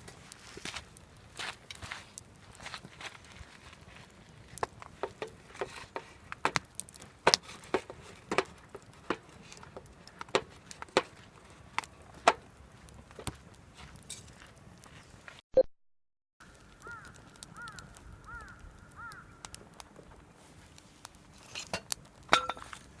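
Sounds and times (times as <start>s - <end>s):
wood fire crackling and popping: 0.0s - 15.4s, 16.4s - 23.0s.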